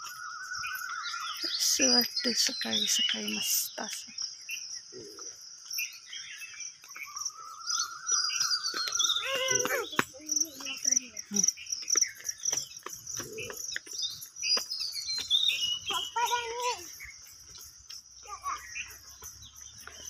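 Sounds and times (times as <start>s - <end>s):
crickets chirping: 0.0s - 20.0s
footsteps on paved path: 0.0s - 20.0s.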